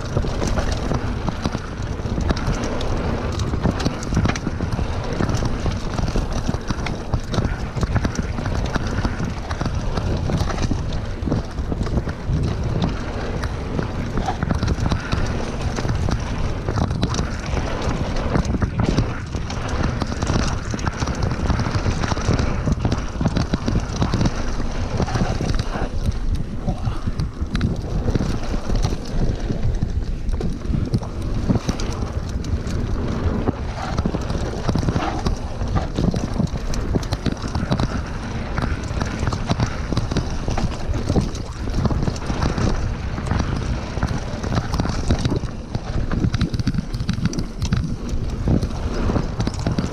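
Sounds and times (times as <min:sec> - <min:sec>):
bike rattles and knocks: 0:00.0 - 0:49.9
tyres rushing on dirt: 0:00.0 - 0:49.9
wind buffeting microphone: 0:00.0 - 0:49.9.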